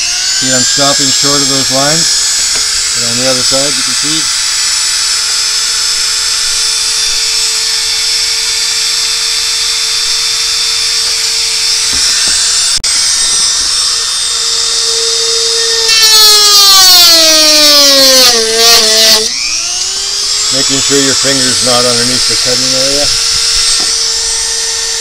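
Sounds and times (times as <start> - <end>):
rotary tool cutting plastic: 0.0 - 25.0
rotary tool whining: 0.0 - 25.0.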